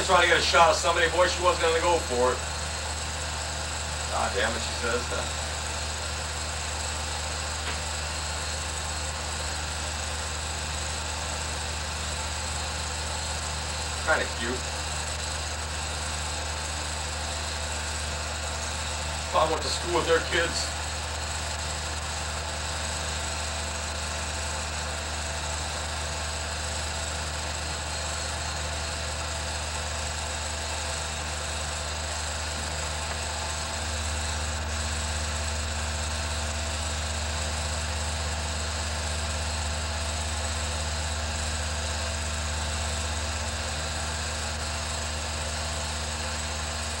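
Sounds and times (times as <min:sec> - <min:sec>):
film projector humming: 0:00.0 - 0:47.0.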